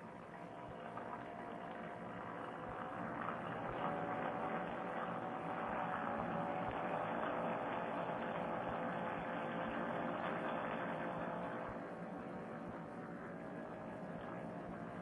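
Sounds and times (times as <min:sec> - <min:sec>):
paramotor engine droning: 0:00.0 - 0:15.0.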